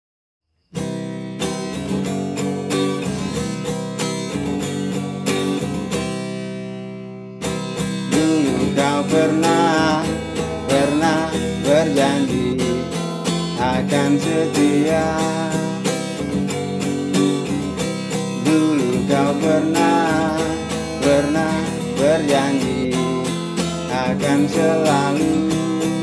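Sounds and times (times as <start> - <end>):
acoustic guitar picking: 0.7 - 26.0.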